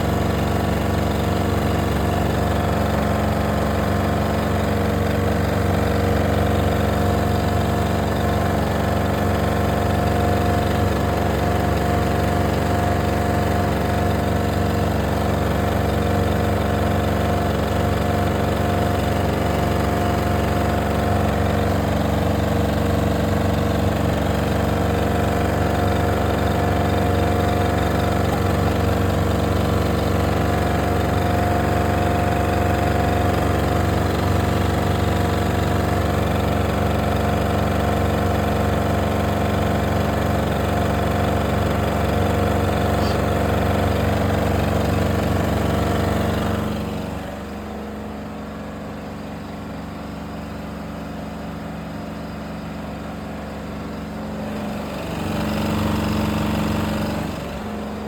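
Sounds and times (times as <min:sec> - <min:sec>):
loud machine hum: 0:00.0 - 0:58.0.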